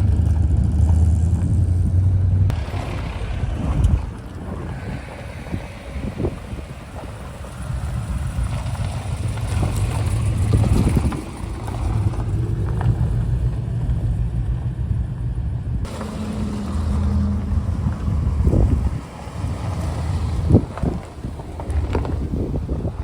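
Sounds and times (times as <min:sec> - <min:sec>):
vehicle engine rumbling: 0:00.0 - 0:23.0
wind buffeting microphone: 0:00.0 - 0:23.0.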